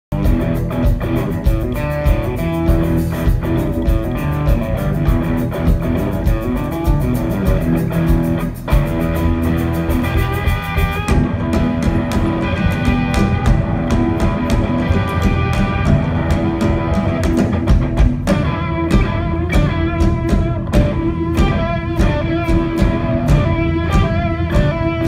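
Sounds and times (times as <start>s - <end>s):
bass guitar: 0.0s - 25.0s
drum kit cymbal beat: 0.1s - 25.0s
electric guitar lead: 0.1s - 25.0s.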